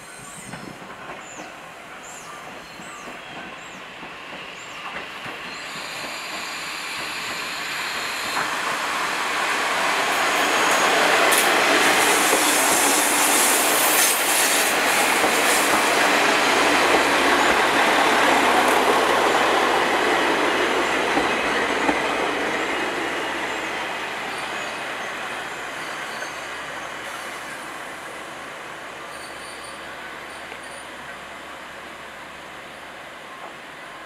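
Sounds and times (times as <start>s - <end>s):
train wheels rumbling over rails: 0.0s - 34.0s.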